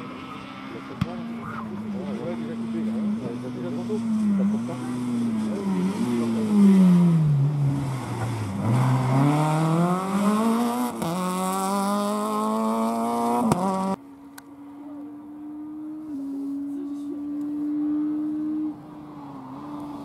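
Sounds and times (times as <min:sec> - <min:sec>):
rally car engine revving: 0:00.0 - 0:14.0, 0:14.8 - 0:20.0.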